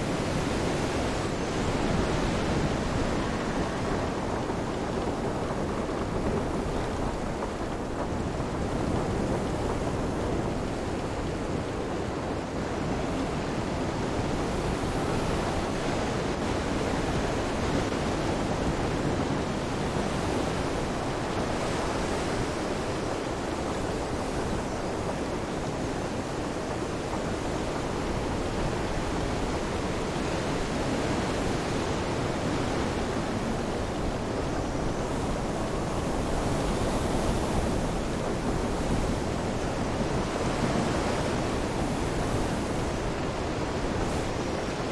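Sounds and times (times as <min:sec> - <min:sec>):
rain: 0:00.0 - 0:44.9
surf: 0:00.0 - 0:44.9
wind: 0:00.0 - 0:44.9.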